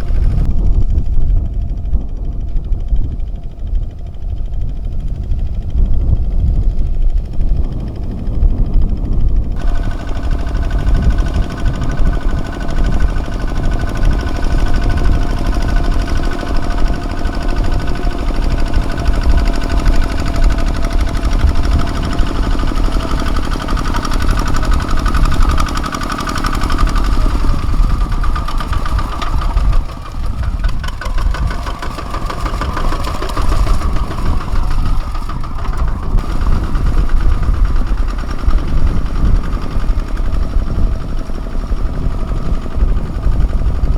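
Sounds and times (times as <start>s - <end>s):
diesel tractor engine knocking: 1.6s - 43.9s.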